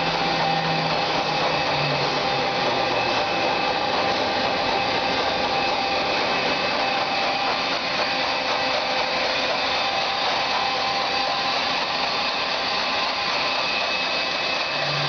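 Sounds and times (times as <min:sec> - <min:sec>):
lathe whirring and whining: 0:00.0 - 0:15.0.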